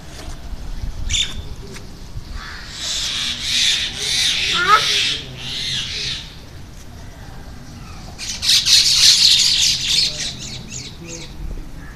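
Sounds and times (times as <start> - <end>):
birds squawking and chirping: 0.3 - 11.9.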